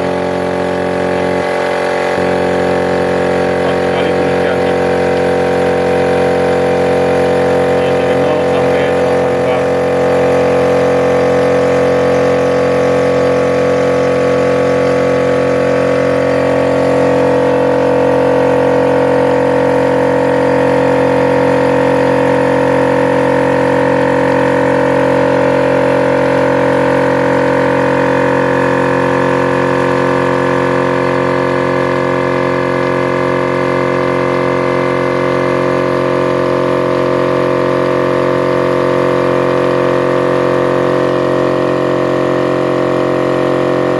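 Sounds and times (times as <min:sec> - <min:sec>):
electric air compressor running: 0:00.0 - 0:43.9.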